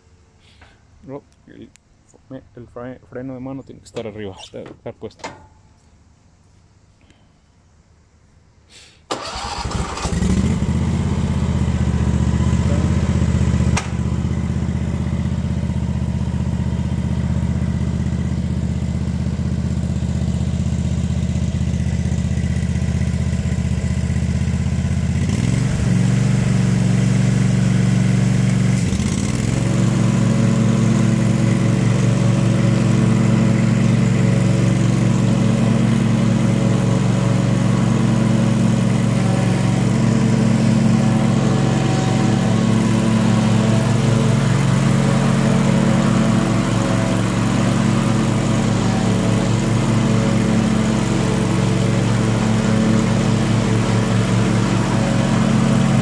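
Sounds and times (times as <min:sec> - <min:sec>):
mower engine running: 0:09.1 - 0:56.0.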